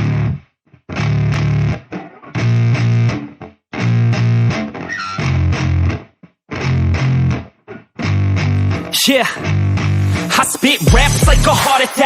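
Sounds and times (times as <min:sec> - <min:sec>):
distorted electric guitar and bass riff: 0:00.0 - 0:12.0.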